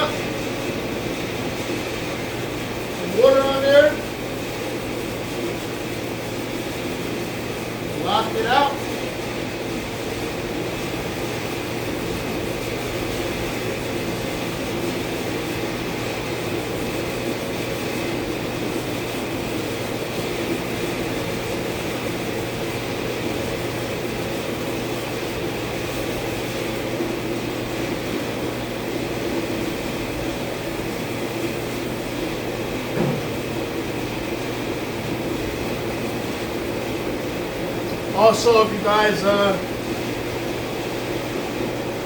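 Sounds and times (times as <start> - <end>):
mechanical drone with low hum: 0.0 - 42.0.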